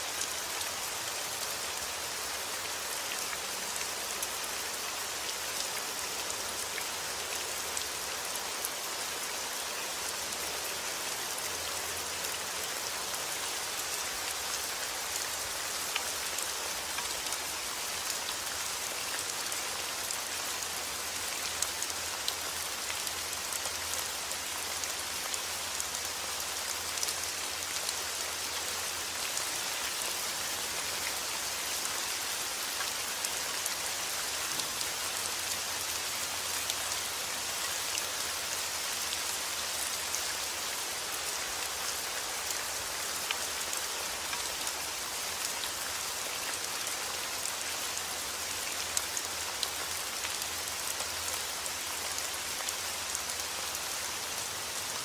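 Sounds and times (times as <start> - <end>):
raindrops ticking on surfaces: 0.0 - 55.0.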